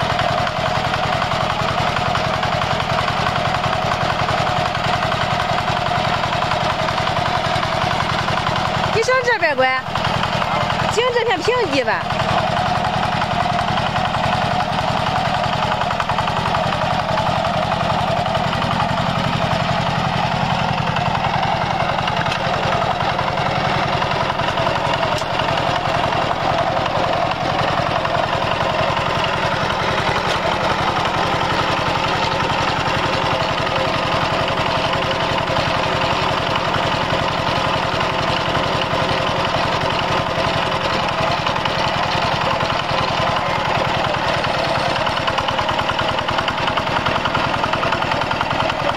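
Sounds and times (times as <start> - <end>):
diesel engine chugging: 0.0 - 48.9.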